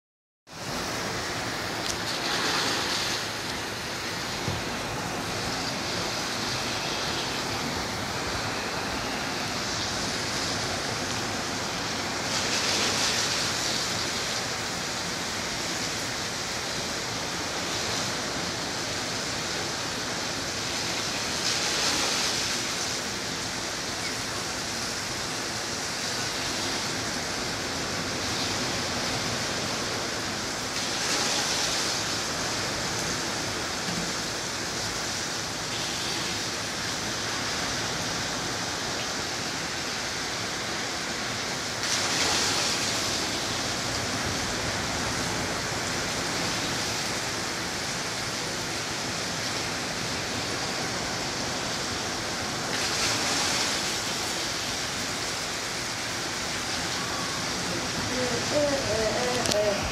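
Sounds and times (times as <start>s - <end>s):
ocean surf breaking: 0.5s - 59.9s.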